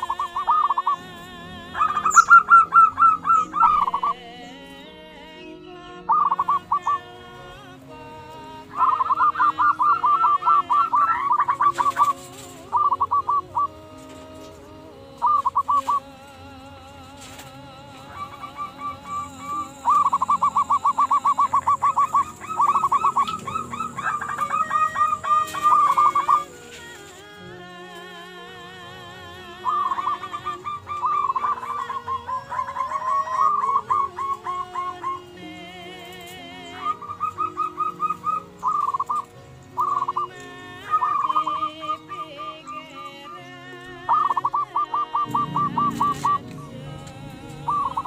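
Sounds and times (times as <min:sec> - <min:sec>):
doves calling: 0:00.0 - 0:48.0.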